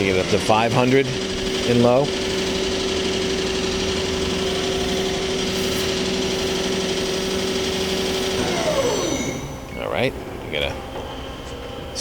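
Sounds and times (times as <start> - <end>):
lathe spindle whining: 0.0 - 12.0.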